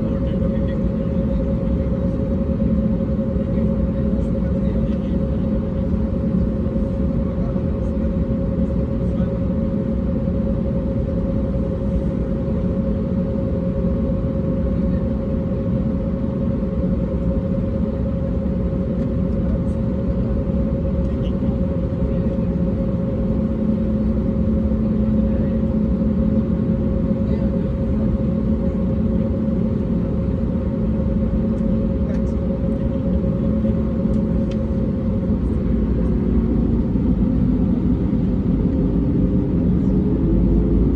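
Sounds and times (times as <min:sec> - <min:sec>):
airplane cabin engine drone: 0:00.0 - 0:40.9
low hum: 0:00.0 - 0:40.9.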